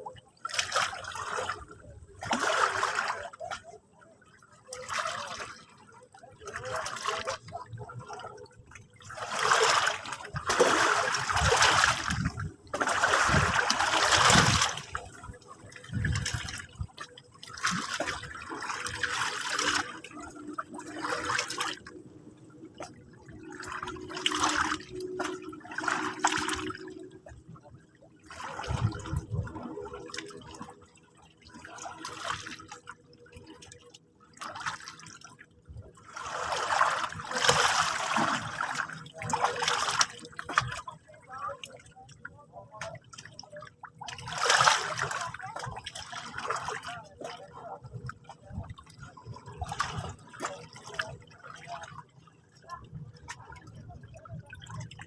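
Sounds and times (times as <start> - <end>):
sea water washing and splashing: 0.0 - 3.8, 4.6 - 42.0, 42.8 - 55.0.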